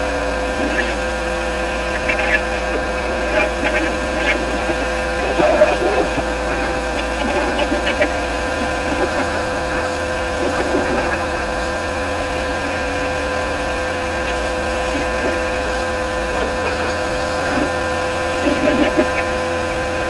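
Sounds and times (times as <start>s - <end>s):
pressure washer motor whine: 0.0s - 20.0s.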